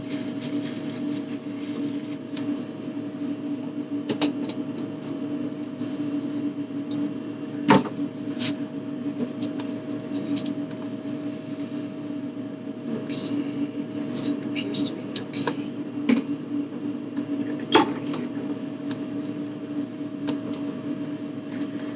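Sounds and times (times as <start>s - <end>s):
steady electrical hum: 0.0s - 21.9s.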